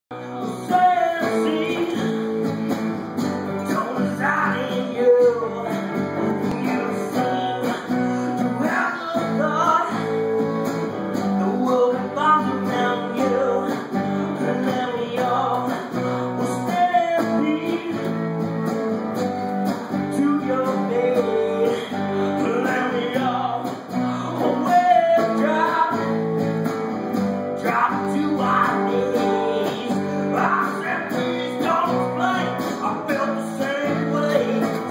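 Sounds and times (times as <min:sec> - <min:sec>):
acoustic guitar strumming: 0:00.1 - 0:34.9.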